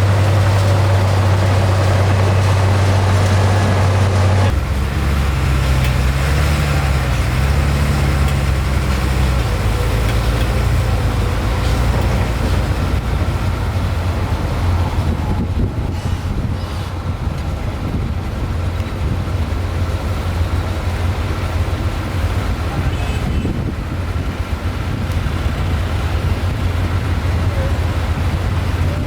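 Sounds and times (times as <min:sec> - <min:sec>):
heavy diesel engines running: 0:00.0 - 0:29.0.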